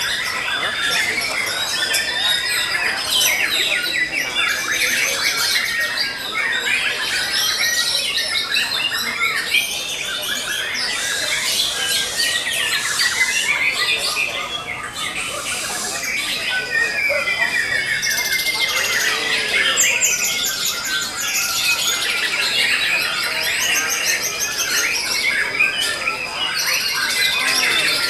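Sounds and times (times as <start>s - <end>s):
caged songbirds singing: 0.0s - 28.0s.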